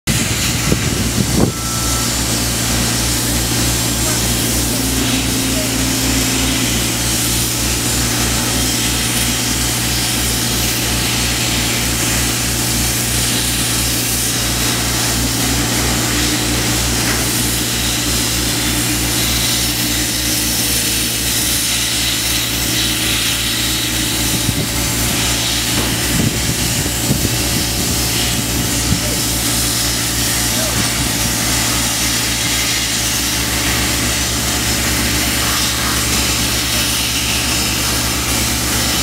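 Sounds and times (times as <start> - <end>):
engine humming: 0.0 - 39.0
arc welding crackling hiss: 0.1 - 39.0.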